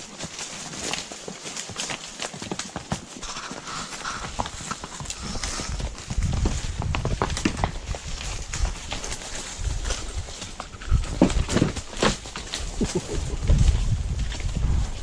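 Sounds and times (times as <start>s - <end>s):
horse hooves on rocky ground: 0.0s - 15.0s.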